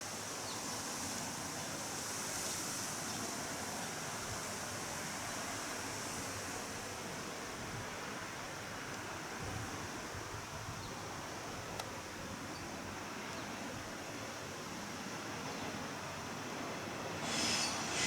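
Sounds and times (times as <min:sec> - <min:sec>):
seaside wind and water hiss: 0:00.0 - 0:18.0.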